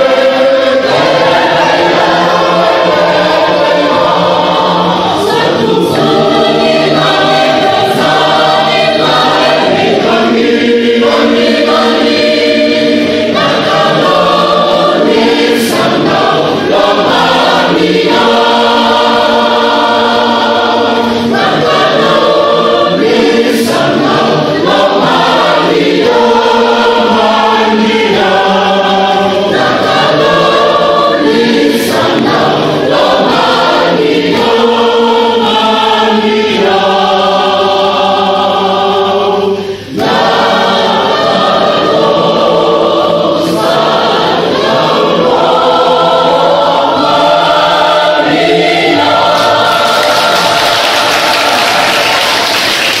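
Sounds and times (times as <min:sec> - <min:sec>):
women and children choir singing: 0:00.0 - 0:53.0.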